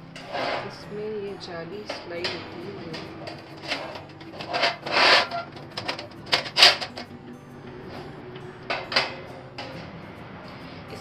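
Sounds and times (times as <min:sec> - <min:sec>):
metal grill grate scraping and clattering: 0:00.0 - 0:11.0.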